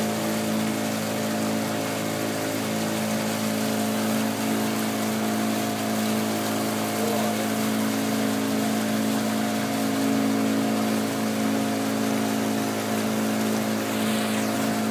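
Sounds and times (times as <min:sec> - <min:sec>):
boat engine running: 0:00.0 - 0:14.9.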